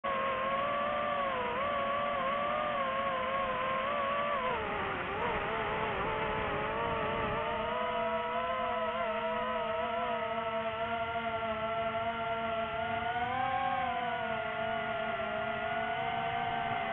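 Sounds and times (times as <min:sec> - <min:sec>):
drone propellers whining: 0:00.1 - 0:16.9.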